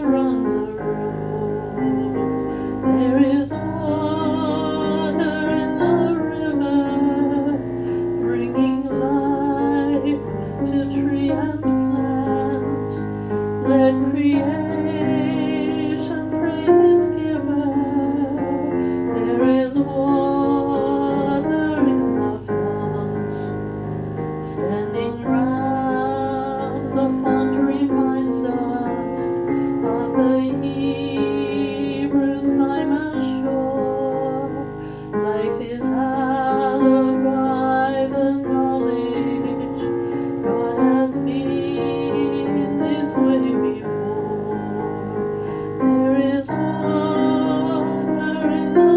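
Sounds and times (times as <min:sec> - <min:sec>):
person singing a hymn: 0:00.0 - 0:48.9
piano chords: 0:00.0 - 0:48.9.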